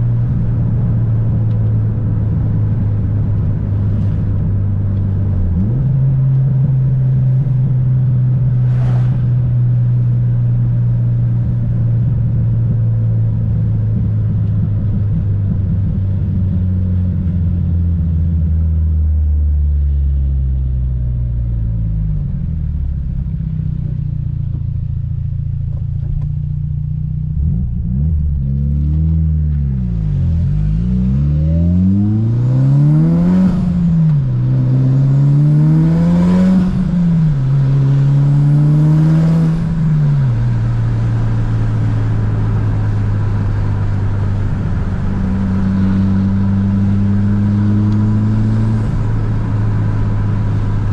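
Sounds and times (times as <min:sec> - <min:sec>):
car engine revving: 0:00.0 - 0:18.8, 0:27.2 - 0:50.9.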